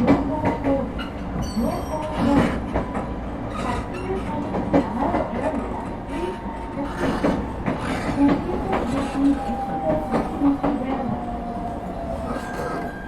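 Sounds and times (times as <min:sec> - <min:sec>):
train car rattles and knocks: 0:00.0 - 0:13.0.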